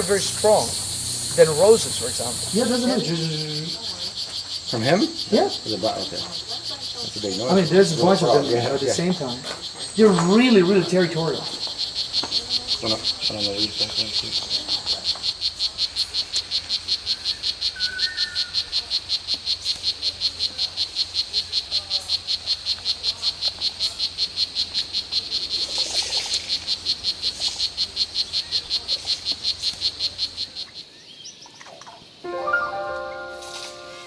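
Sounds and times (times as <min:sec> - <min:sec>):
frogs calling in chorus: 0:00.0 - 0:34.0.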